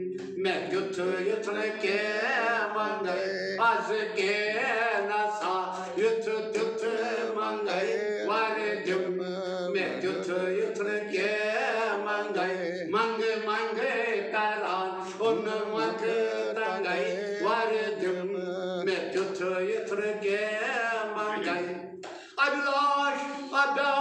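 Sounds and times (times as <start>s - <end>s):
man singing devotional song: 0.0s - 24.0s.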